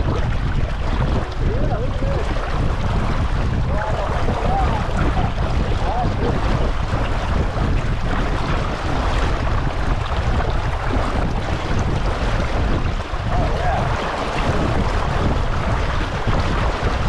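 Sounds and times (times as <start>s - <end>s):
water rushing around hull: 0.0s - 17.0s
wind buffeting microphone: 0.0s - 17.0s.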